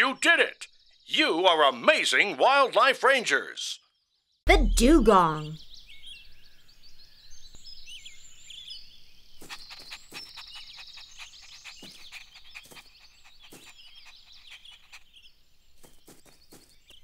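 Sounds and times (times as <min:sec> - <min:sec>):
small birds chirping: 0:00.0 - 0:02.4, 0:03.3 - 0:17.0.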